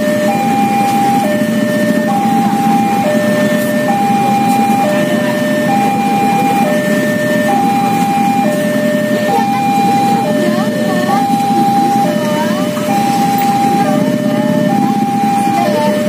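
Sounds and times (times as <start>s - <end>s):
motorcycle engines idling: 0.0s - 16.0s
two-tone level crossing alarm: 0.0s - 16.0s.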